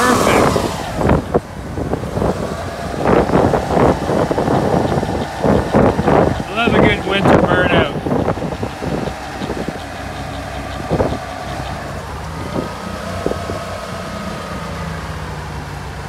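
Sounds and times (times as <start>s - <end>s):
car engine running under load: 0.0s - 16.0s
wheels spinning in snow: 0.0s - 16.0s.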